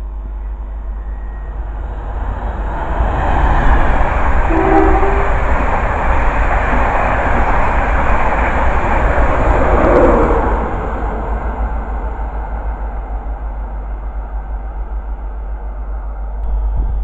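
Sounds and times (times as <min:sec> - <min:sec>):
passenger train passing at speed: 0:00.0 - 0:17.0.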